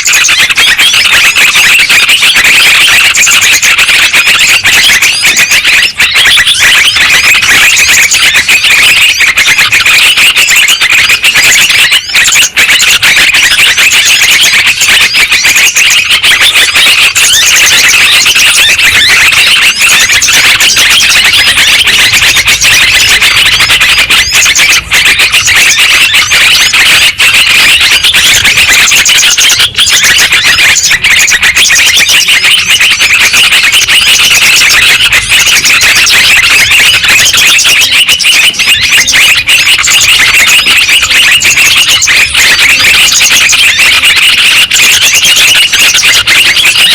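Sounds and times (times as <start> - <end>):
bulbuls chattering chorus: 0.0 - 46.9.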